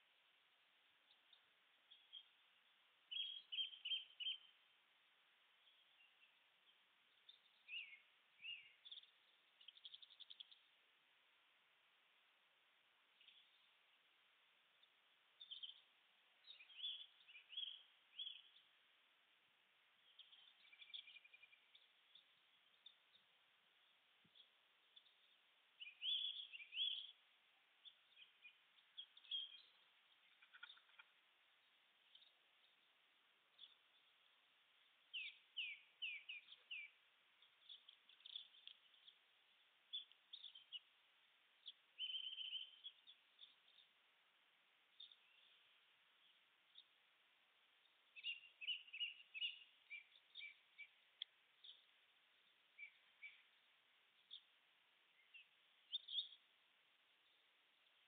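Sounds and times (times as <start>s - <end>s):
steady low hiss: 0.0s - 58.0s
small bird chirps: 0.9s - 4.8s, 5.5s - 10.8s, 13.1s - 18.9s, 19.9s - 58.0s.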